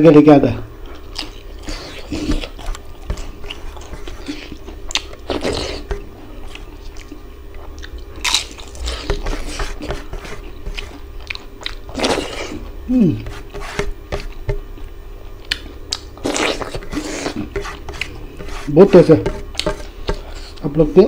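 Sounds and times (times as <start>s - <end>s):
person chewing food: 0.8s - 20.7s.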